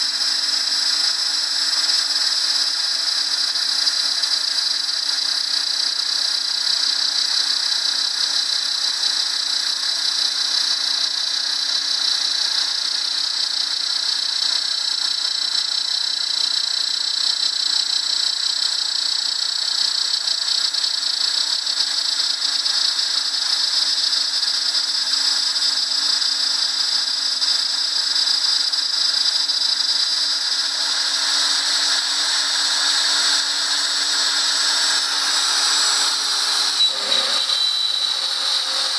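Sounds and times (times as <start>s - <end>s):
router spindle high-pitched whine: 0.0s - 38.9s.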